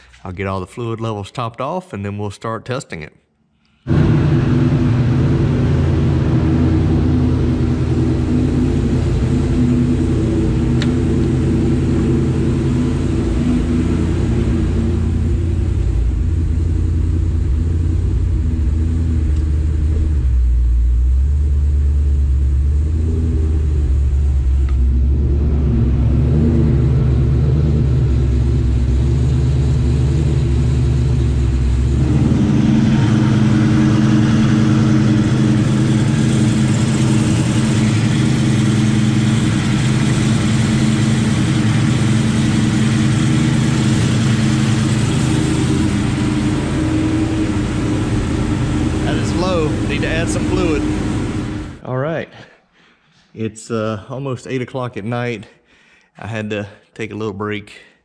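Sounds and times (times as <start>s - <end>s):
car engine running steadily: 3.6s - 51.8s.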